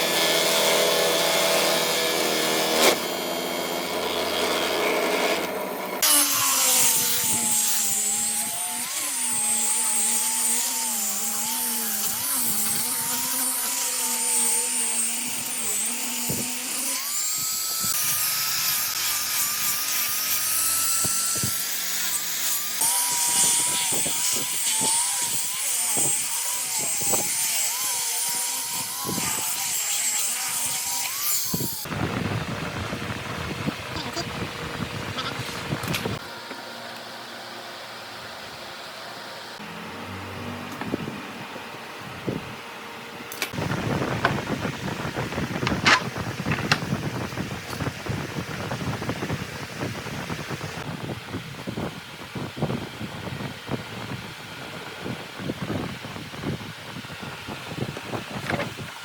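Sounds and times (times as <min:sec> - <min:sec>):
power tool motor whine: 0:00.0 - 0:36.3, 0:39.5 - 0:59.0.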